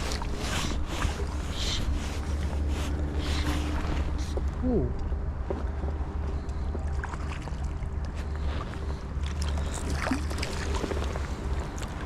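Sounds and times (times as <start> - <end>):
water splashing and lapping: 0.0 - 4.6, 6.1 - 12.0
low wind rumble on microphone: 0.0 - 12.0.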